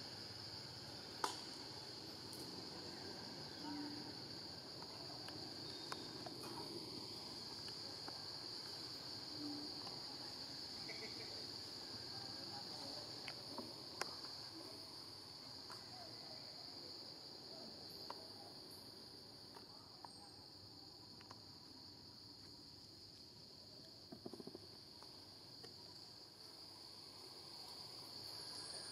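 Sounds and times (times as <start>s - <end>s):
insect chorus drone: 0.0s - 28.9s.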